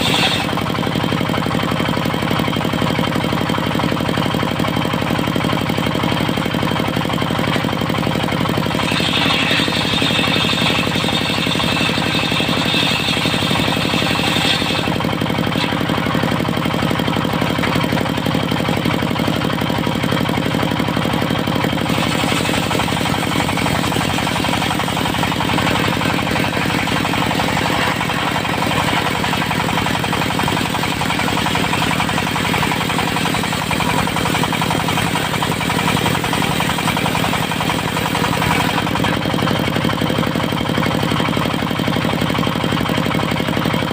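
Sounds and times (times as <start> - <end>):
circular saw cutting wood: 0.0 - 40.2
diesel engine knocking steadily: 0.0 - 43.9.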